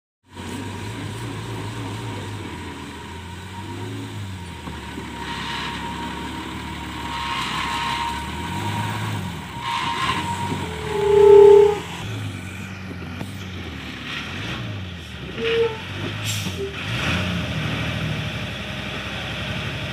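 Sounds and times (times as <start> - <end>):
diesel truck engine revving: 0.3 - 19.9.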